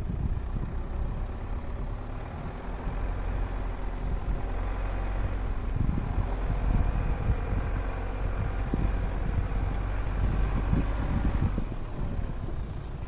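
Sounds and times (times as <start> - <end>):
off-road vehicle engine rumbling: 0.0 - 13.0.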